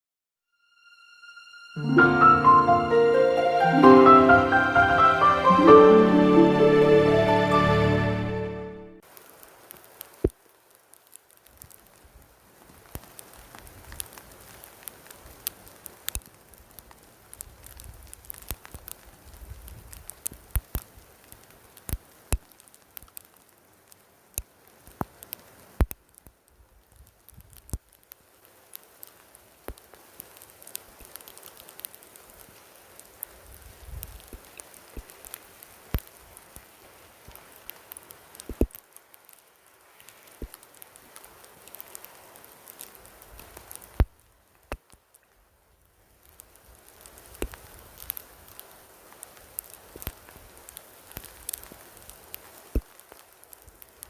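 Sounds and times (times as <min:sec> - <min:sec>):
faint steady hiss: 0:00.7 - 0:54.0.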